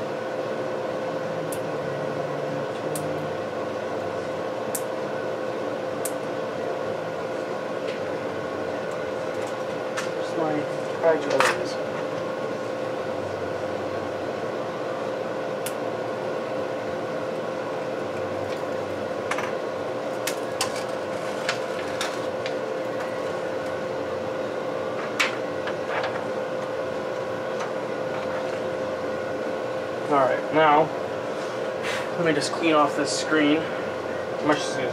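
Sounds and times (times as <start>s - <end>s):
fan-like hum: 0.0s - 34.9s.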